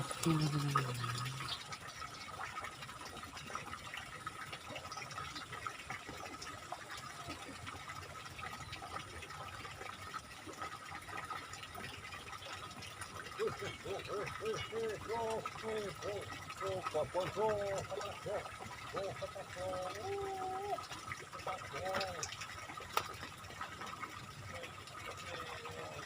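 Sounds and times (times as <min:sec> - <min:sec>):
water rushing in a ditch: 0:00.0 - 0:26.0.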